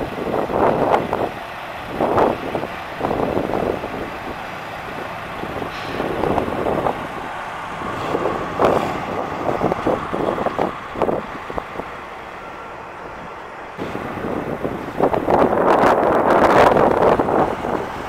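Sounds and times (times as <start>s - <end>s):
vehicle driving: 0.0s - 18.0s
wind buffeting microphone: 0.0s - 18.0s.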